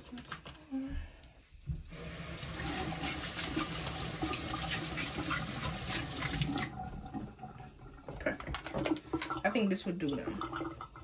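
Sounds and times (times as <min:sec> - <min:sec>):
faucet running into metal sink: 0:01.9 - 0:11.0.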